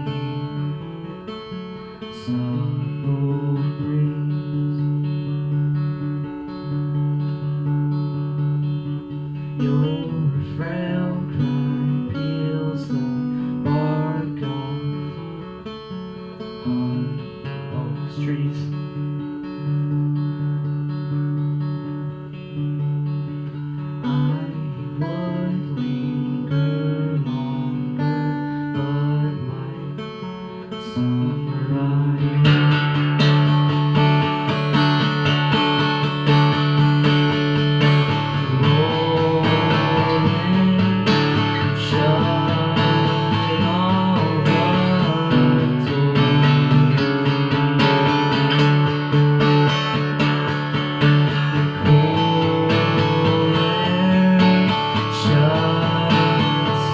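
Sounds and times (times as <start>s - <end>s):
man singing: 0.0s - 5.6s, 8.9s - 19.1s, 23.9s - 56.9s
acoustic guitar: 0.0s - 56.9s.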